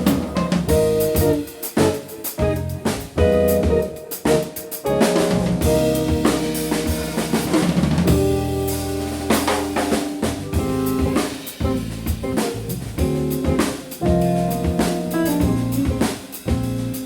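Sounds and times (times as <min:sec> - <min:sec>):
snare and bass drum hits: 0:00.0 - 0:16.8
small jazz band playing: 0:00.0 - 0:17.0.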